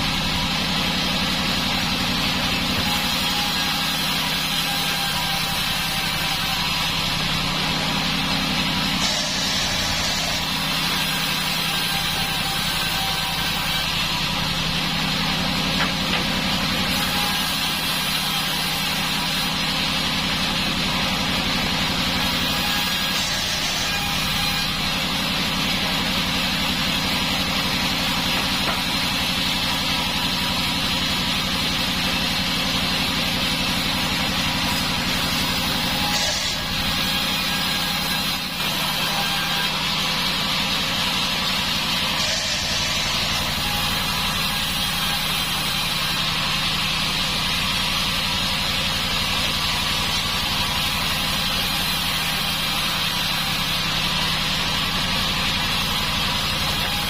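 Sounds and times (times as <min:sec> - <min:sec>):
band saw humming and hissing: 0:00.0 - 0:57.0.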